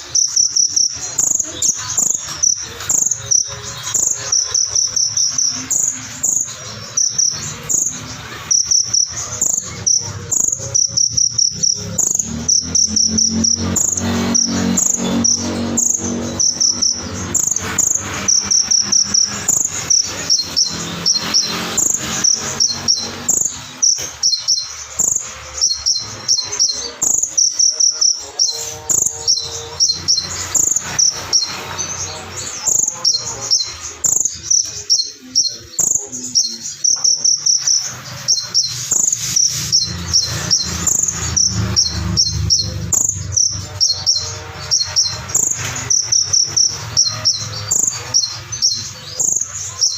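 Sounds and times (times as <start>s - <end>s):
sunbird singing rapid chirps: 0.0s - 49.9s.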